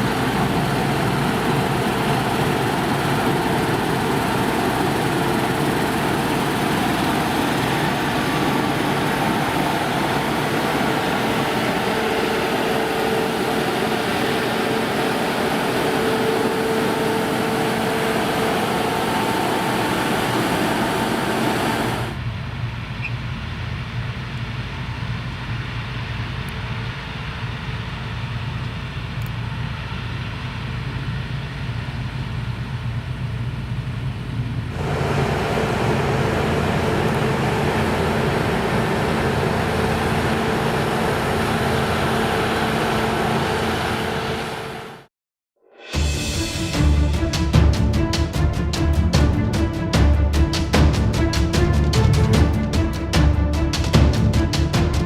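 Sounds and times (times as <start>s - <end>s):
combine harvester running: 0.0s - 45.1s, 46.0s - 55.0s
engine drone: 0.0s - 45.1s, 45.8s - 55.0s.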